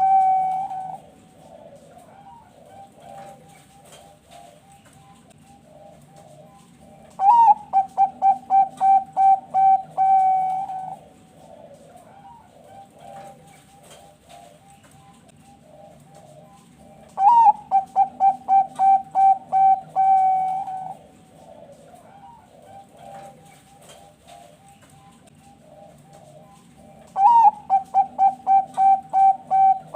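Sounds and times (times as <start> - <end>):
dove cooing phrases: 0.0 - 29.9
soft background dove cooing: 0.0 - 29.9.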